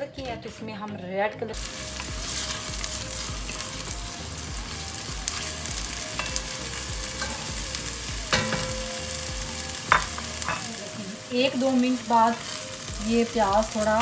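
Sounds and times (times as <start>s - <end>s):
onion sizzling in hot oil: 1.5s - 14.0s.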